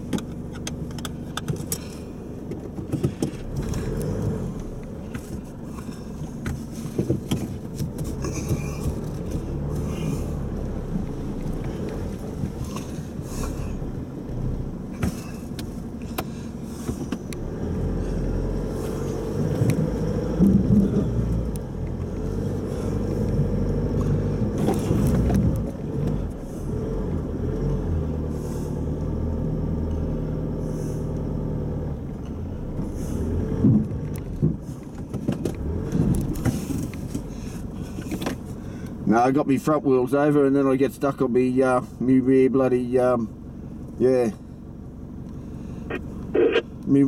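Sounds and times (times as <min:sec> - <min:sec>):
off-road vehicle engine crawling: 0:00.0 - 0:47.0.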